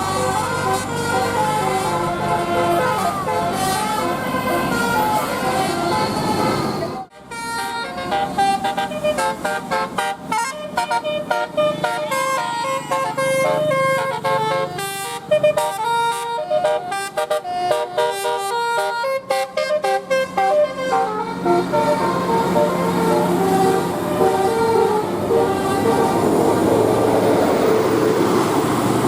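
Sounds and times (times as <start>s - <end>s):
musical air horn tune: 0.0s - 27.9s.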